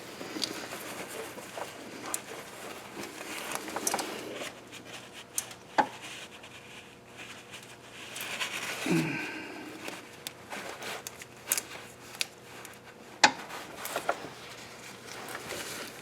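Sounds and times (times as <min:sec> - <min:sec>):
rag rubbing and rustling: 0:00.0 - 0:16.0.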